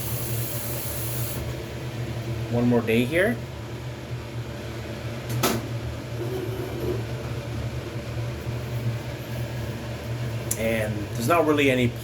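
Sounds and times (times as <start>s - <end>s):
fan appliance humming: 0.0s - 12.0s.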